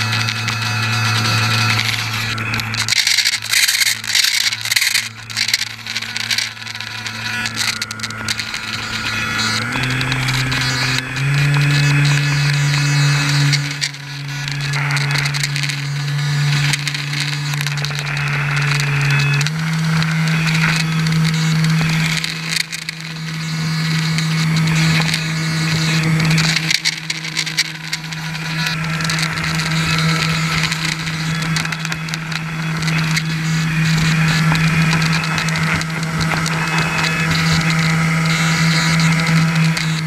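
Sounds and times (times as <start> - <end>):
airboat motor and propeller: 0.0 - 40.0.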